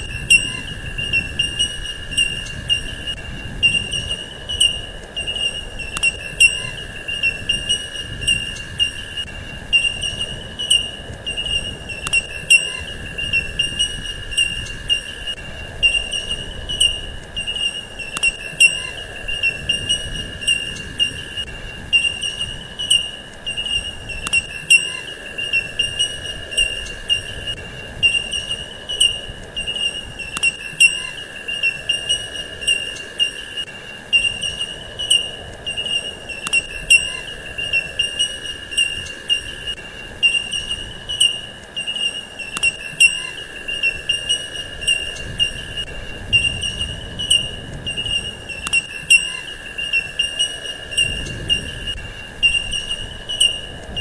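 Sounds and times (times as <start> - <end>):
insect chirps and ticks: 0.0 - 54.0
insects trilling: 0.0 - 54.0.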